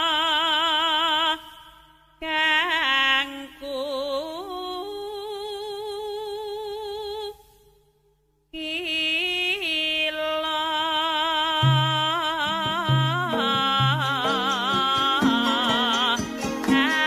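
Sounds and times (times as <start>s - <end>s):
person singing with vibrato: 0.0s - 7.8s, 8.5s - 17.0s.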